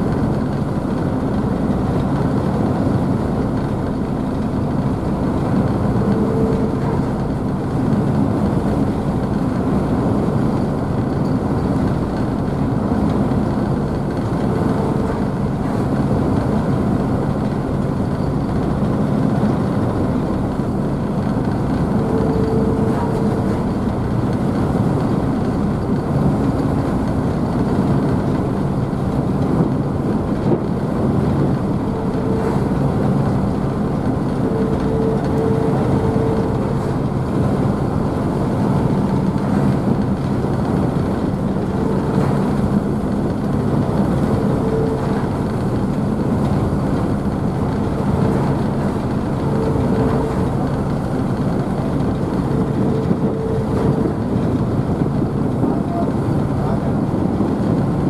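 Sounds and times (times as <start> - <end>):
ferry engines running: 0.0 - 58.0.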